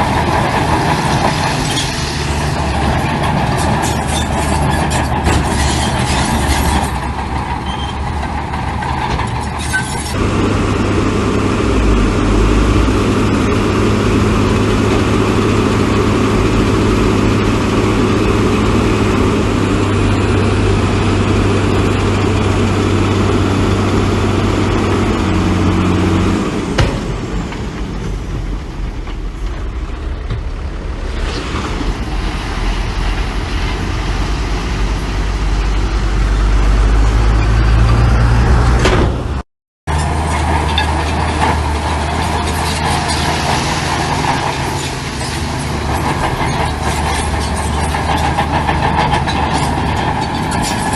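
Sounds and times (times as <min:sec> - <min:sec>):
heavy diesel engines under load: 0:00.0 - 0:50.9.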